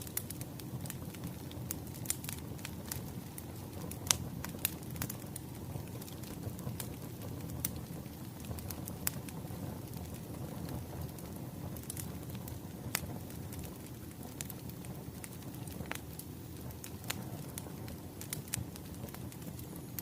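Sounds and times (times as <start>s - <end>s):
firewood crackling and popping: 0.0s - 20.0s
low rumble of fire: 0.0s - 20.0s.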